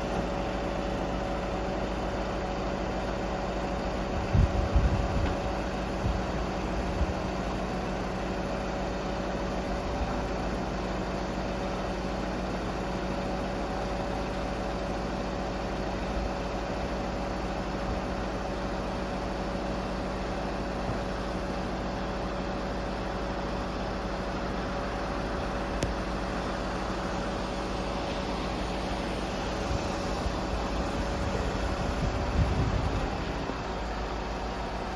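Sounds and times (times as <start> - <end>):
diesel engine running steadily: 0.0 - 34.9.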